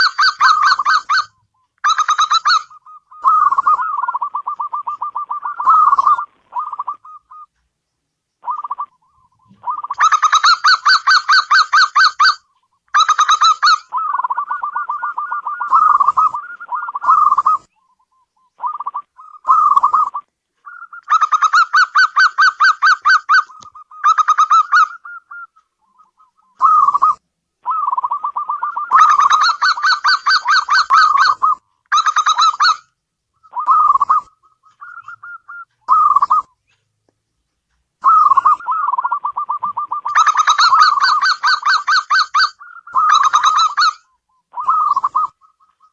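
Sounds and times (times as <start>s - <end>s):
dove cooing: 0.0s - 7.6s, 8.4s - 12.3s, 13.0s - 32.8s, 33.4s - 36.6s, 38.0s - 45.9s.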